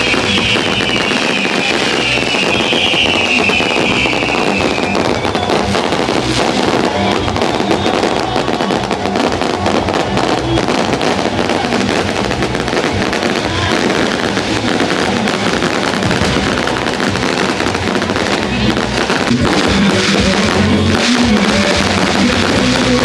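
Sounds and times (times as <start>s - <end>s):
fireworks crackling and popping: 0.0s - 23.0s
music playing: 0.0s - 23.0s.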